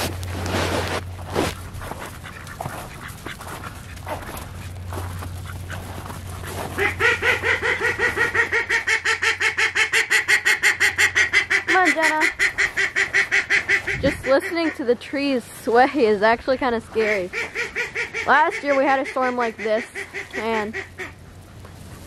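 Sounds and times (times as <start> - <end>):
low steady rumble: 0.0 - 22.0
ducks quacking: 0.8 - 22.0.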